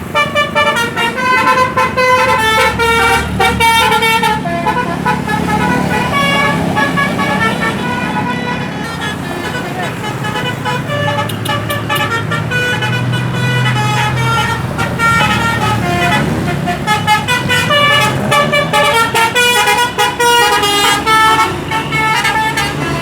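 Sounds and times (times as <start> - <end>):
bus engine hum: 0.0 - 23.0
bus musical horn: 0.0 - 23.0.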